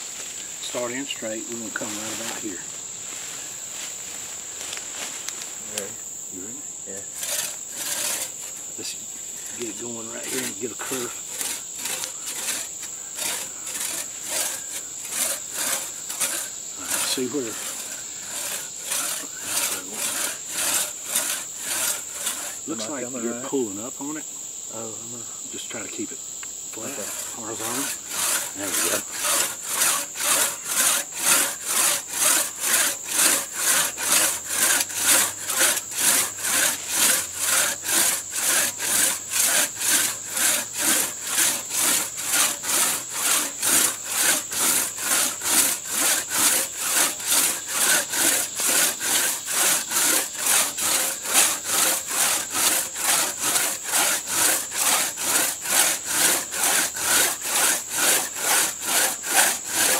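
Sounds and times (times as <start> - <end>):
crosscut saw rasping through wood: 0.6 - 2.6, 7.0 - 23.6, 26.8 - 59.9.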